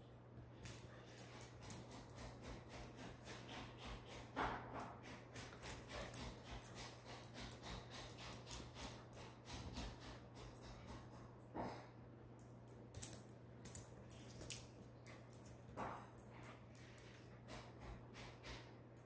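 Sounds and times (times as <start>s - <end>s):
dog claws clicking on wood floor: 0.6s - 11.2s, 12.7s - 19.0s.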